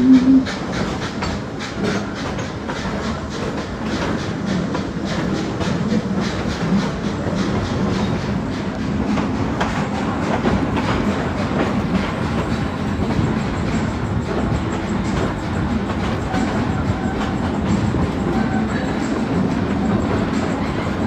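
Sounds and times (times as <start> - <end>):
train car rumbling: 0.0 - 21.0.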